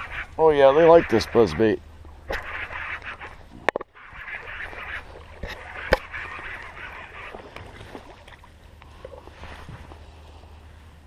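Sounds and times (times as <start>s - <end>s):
water splashing: 0.0s - 10.1s.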